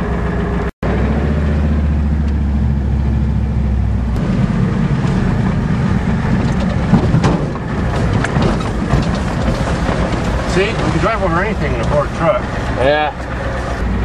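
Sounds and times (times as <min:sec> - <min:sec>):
diesel truck engine: 0:00.0 - 0:14.0.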